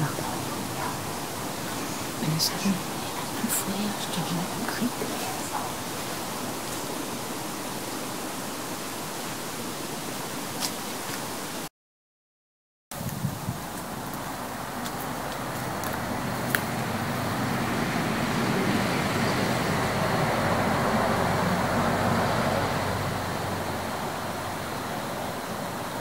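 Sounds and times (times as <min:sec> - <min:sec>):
distant road traffic: 0:00.0 - 0:09.7, 0:13.6 - 0:26.0.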